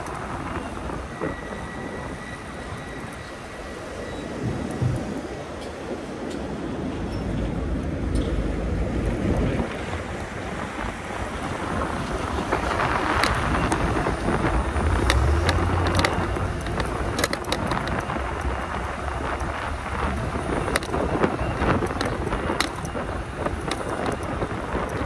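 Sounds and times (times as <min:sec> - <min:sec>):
low riding rumble: 0:00.0 - 0:25.0
wind rushing over microphone: 0:00.0 - 0:25.0.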